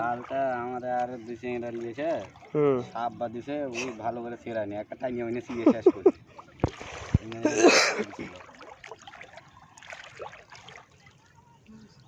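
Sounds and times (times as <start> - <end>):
water splashing and trickling: 0.0 - 3.5, 5.6 - 12.0.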